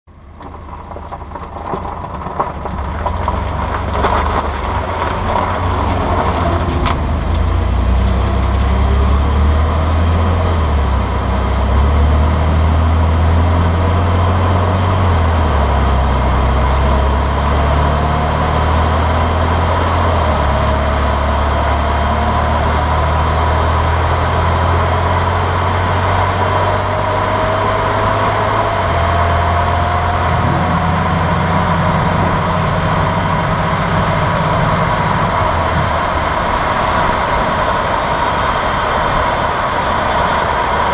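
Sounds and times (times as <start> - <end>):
vehicle driving rumble: 0.0 - 40.9.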